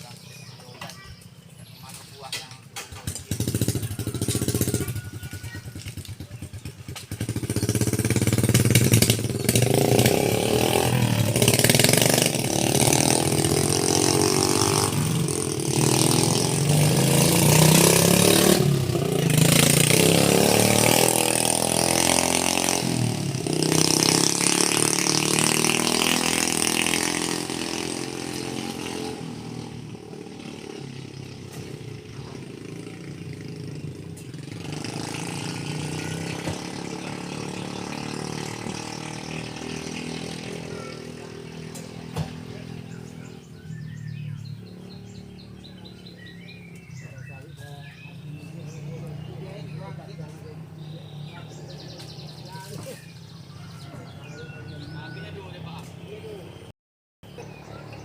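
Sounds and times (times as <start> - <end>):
vehicle engine revving hard: 3.2 - 5.2, 6.6 - 52.7.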